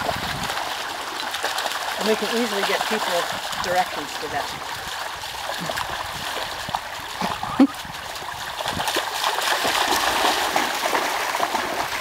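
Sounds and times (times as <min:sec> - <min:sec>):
dogs splashing through water: 0:00.0 - 0:12.0
running water rushing: 0:00.0 - 0:12.0.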